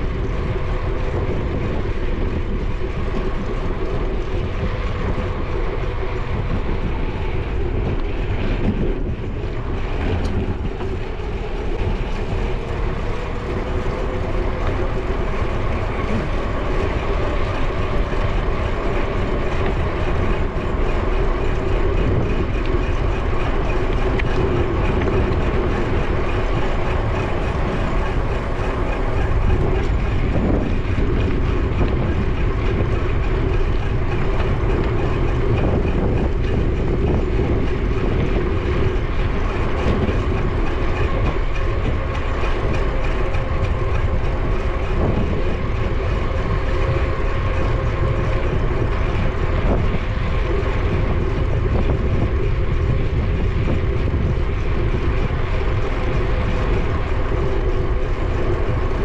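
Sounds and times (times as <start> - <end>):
bicycle tyres rolling hum: 0.0 - 59.0
wind on microphone: 0.0 - 59.0.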